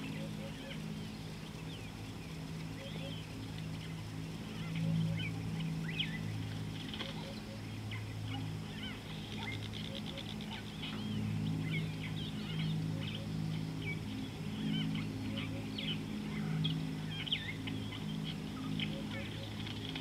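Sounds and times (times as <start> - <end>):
birds chirping and trilling: 0.0 - 20.0
steady low hum: 0.0 - 20.0.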